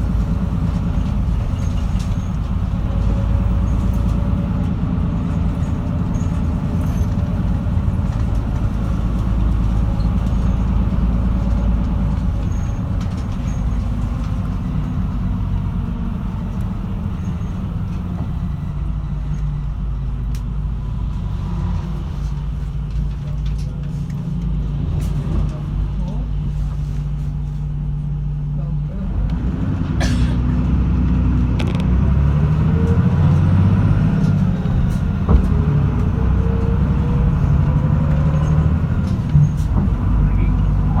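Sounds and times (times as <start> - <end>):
bus engine drone: 0.0 - 41.0
road noise: 0.0 - 41.0.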